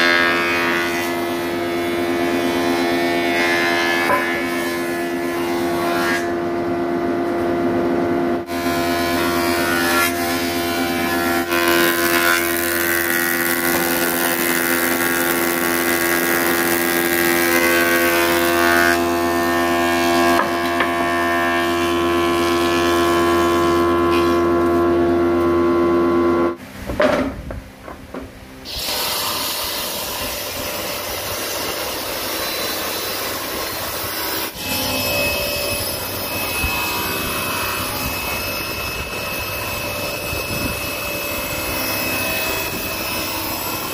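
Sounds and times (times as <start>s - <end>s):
table saw running: 0.0s - 26.6s, 28.7s - 43.9s
thickness planer humming: 0.0s - 43.9s.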